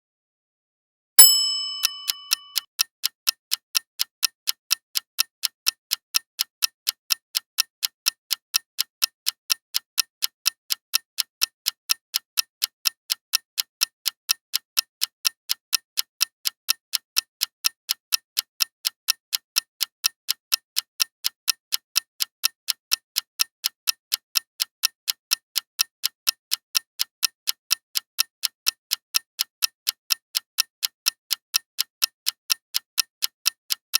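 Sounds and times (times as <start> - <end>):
clock-like ticking: 1.2 - 33.9.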